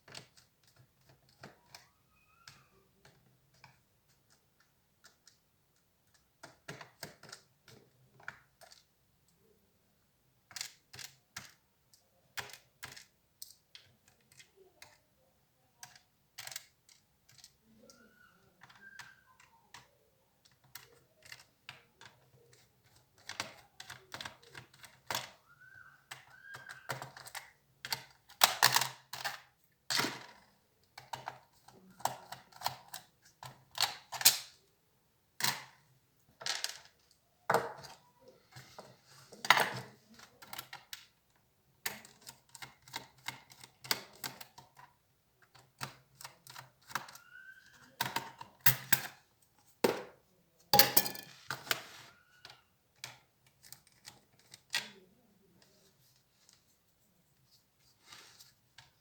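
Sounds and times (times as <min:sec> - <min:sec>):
laptop parts clicking and tapping: 0:00.0 - 0:09.4, 0:10.4 - 0:15.0, 0:15.7 - 0:34.6, 0:36.6 - 0:49.2, 0:50.8 - 0:55.1.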